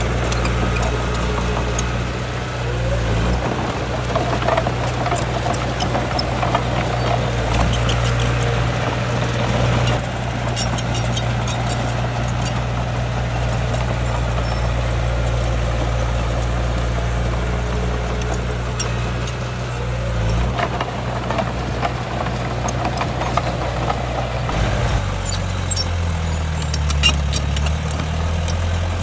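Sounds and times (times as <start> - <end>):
diesel machinery running: 0.0 - 29.0
metal clanks and rattles: 0.0 - 29.0.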